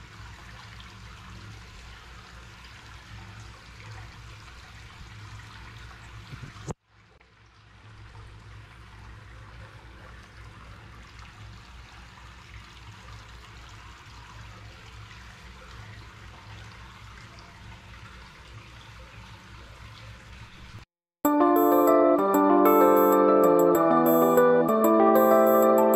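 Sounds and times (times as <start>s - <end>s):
running water: 0.0s - 20.8s.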